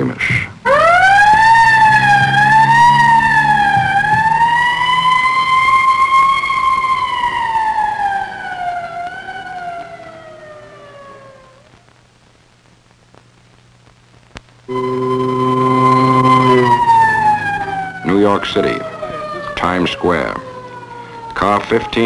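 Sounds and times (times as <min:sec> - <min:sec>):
police siren wailing: 0:00.6 - 0:11.8, 0:14.7 - 0:22.0.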